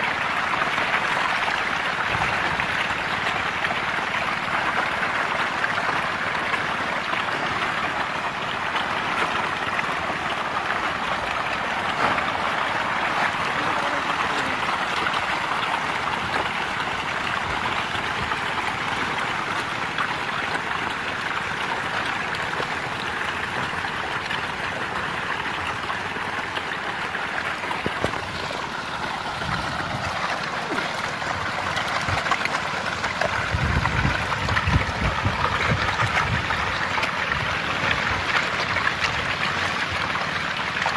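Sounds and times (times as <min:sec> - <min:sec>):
fish thrashing and splashing: 0:00.4 - 0:40.9.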